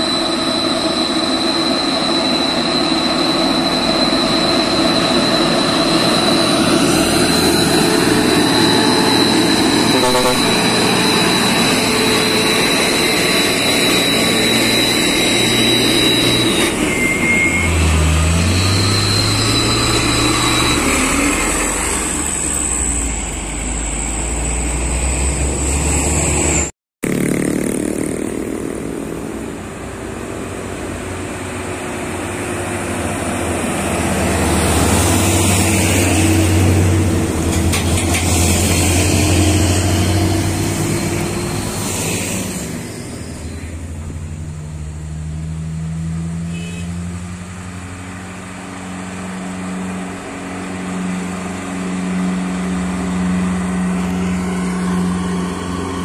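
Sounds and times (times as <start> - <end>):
diesel trucks climbing hill: 0.0 - 56.0
high whine over truck engine: 0.0 - 56.0.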